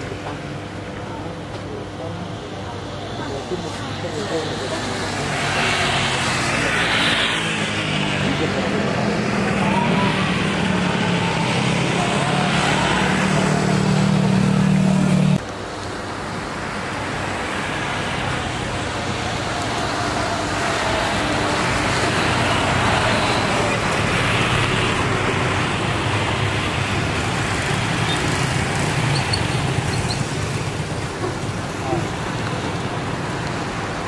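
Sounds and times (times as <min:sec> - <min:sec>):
rushing engines and traffic: 0:00.0 - 0:34.0.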